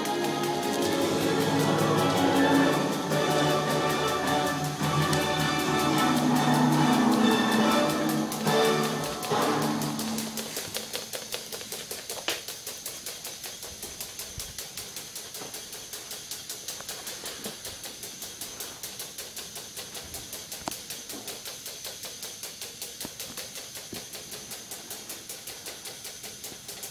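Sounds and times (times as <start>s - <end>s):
toy roller coaster chain lift clicking: 0.0s - 26.9s.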